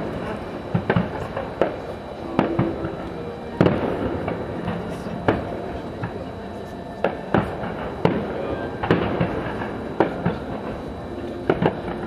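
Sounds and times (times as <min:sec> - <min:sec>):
distant firework bursts: 0:00.0 - 0:06.2, 0:07.0 - 0:12.0.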